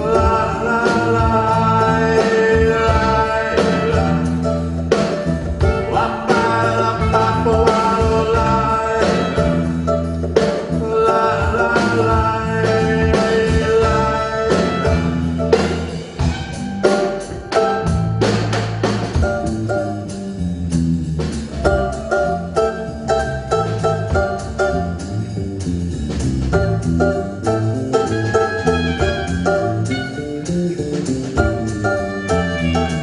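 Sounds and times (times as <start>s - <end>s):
live folk band playing: 0.0s - 33.0s.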